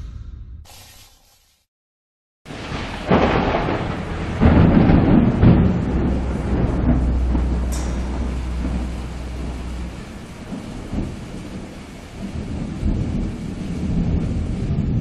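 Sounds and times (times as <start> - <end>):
rain hiss: 2.5 - 15.0
thunder rumble: 2.5 - 15.0.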